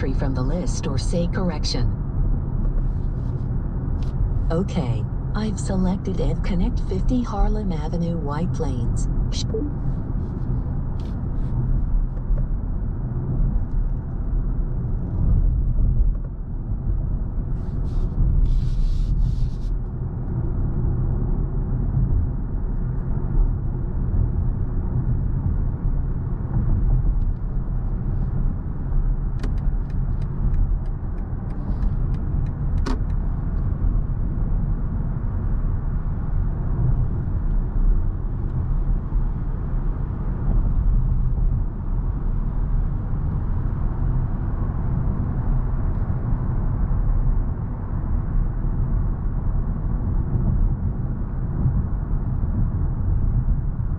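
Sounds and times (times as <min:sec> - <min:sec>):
road and tyre rumble: 0:00.0 - 0:06.7, 0:07.3 - 0:53.9.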